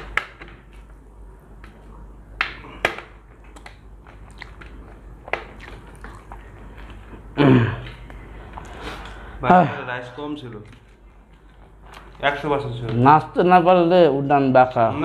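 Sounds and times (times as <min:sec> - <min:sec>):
people chewing: 0:00.0 - 0:09.4, 0:10.4 - 0:13.0
low steady hum: 0:00.0 - 0:15.0.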